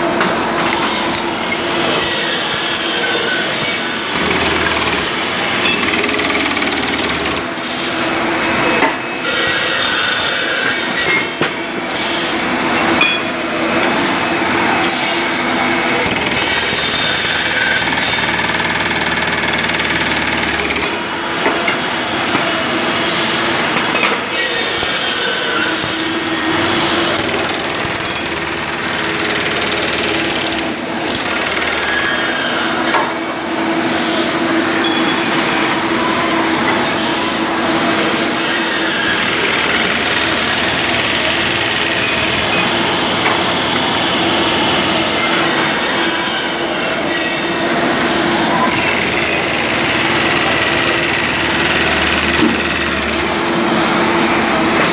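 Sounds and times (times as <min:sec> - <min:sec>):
factory machinery running: 0:00.0 - 0:54.9
machinery hums and whines: 0:00.0 - 0:54.9.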